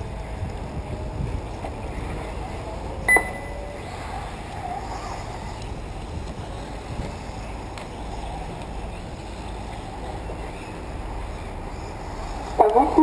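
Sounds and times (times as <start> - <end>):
radio-controlled cars racing: 0.0 - 3.0, 3.6 - 13.0
wind rumbling on microphone: 0.0 - 12.6.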